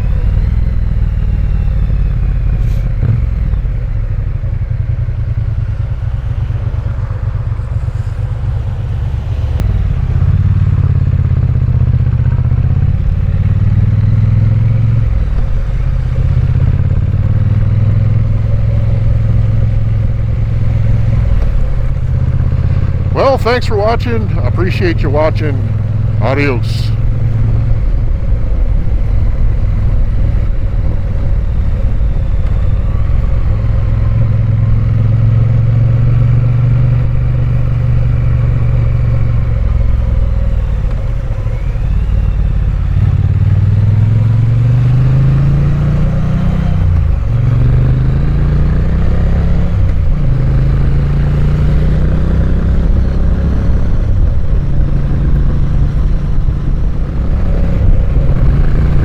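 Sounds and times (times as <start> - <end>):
motorcycle engine riding: 0.0 - 59.0.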